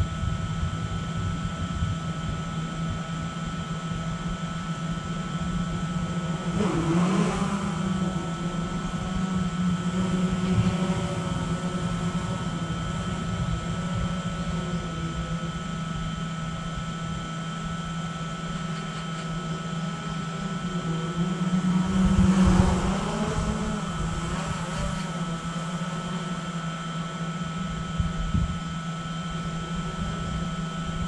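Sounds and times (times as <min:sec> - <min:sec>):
drone propellers humming: 0:00.0 - 0:31.0.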